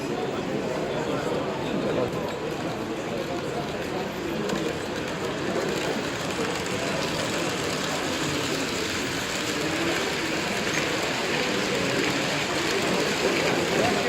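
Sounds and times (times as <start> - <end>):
model train rolling rumble: 2.0 - 14.0.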